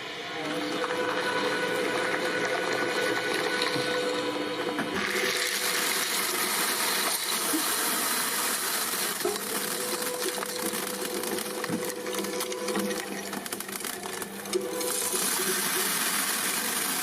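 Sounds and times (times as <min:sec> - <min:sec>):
cutting machine motor hum: 0:00.0 - 0:17.0.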